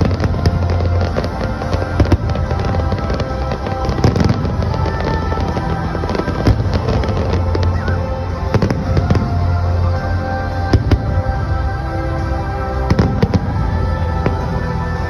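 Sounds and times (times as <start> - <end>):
fireworks bangs and crackles: 0.0 - 15.0
music with steady bass: 0.0 - 15.0.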